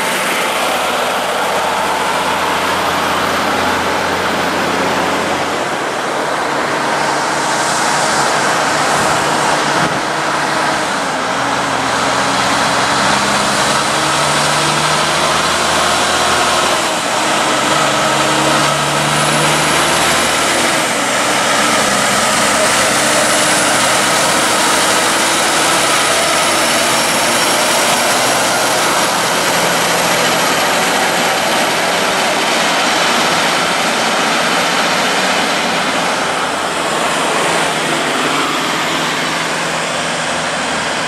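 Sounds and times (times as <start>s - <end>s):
rumble of tyres and traffic: 0.0s - 41.0s
truck diesel engines pulling away: 0.0s - 41.0s.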